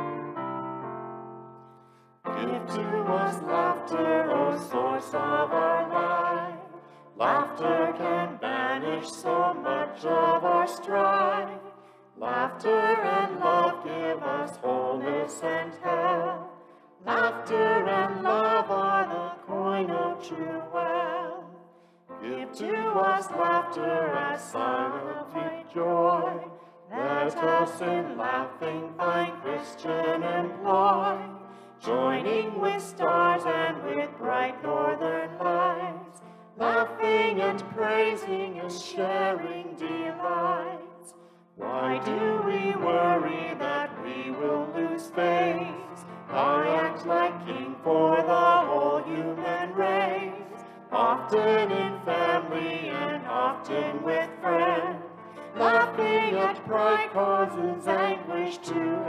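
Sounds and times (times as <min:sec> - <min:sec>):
voices singing a hymn: 0:02.3 - 0:59.0.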